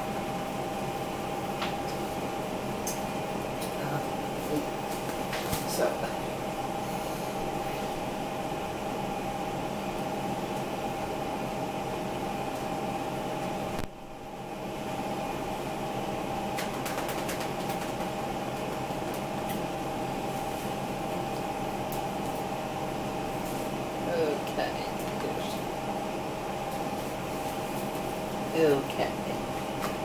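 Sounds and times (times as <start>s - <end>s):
machine hum with whine: 0.0s - 30.0s.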